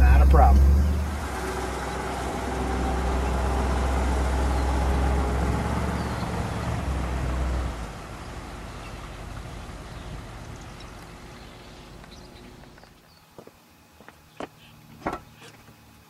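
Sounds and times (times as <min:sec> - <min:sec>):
car engine rumble driving off: 0:00.0 - 0:12.9.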